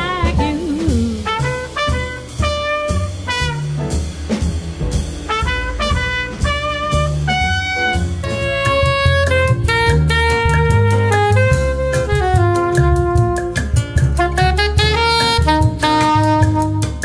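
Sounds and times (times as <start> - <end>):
trumpet melody: 0.0 - 4.0, 5.2 - 17.0
bass and drums: 0.0 - 17.0.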